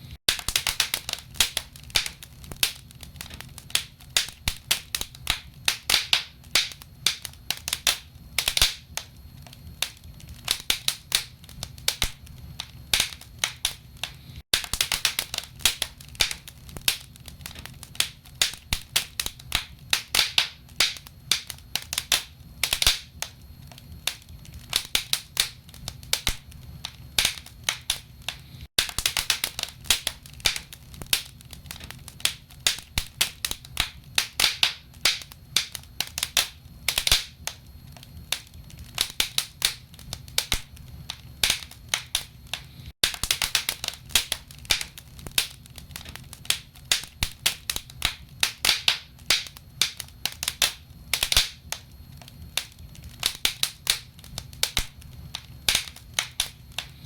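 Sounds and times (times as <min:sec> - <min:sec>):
firewood crackling and popping: 0:00.2 - 0:57.0.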